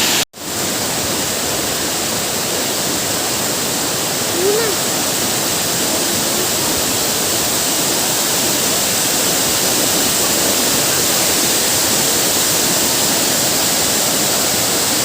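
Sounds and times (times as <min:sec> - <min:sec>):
waterfall crashing: 0:00.0 - 0:15.0.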